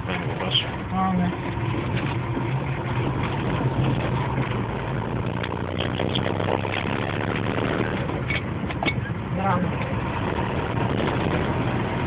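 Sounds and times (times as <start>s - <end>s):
car engine hum: 0.0s - 12.0s
tyre and road noise: 0.0s - 12.0s.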